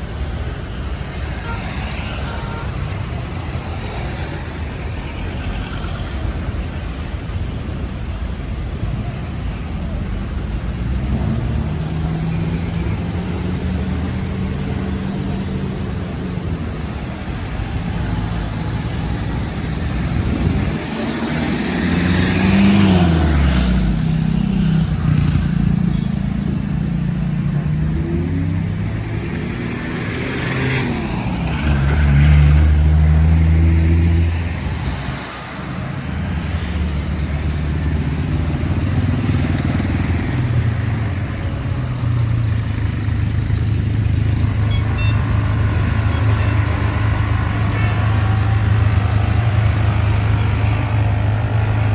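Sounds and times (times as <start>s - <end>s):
car engines passing: 0.0s - 51.9s
loud vehicle passing: 9.9s - 51.9s.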